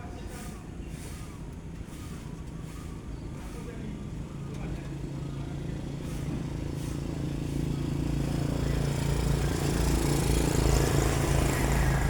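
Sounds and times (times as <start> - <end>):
engine running with low hum: 1.1 - 12.0.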